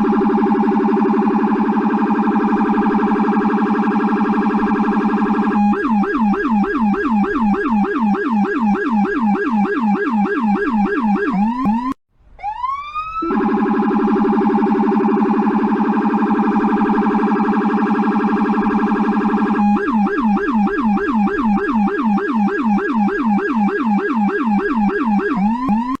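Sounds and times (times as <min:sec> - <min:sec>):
police siren yelping: 0:00.0 - 0:26.0.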